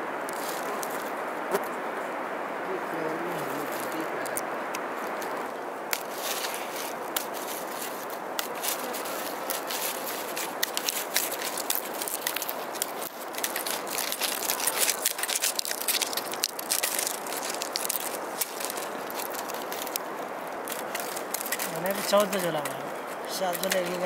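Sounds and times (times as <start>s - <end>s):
steady hiss: 0.0s - 24.0s
bamboo strips crackling and clicking: 3.6s - 24.0s.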